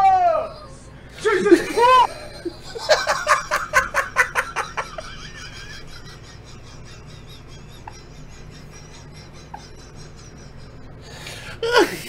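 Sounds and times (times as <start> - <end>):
man laughing hard: 0.1 - 12.0.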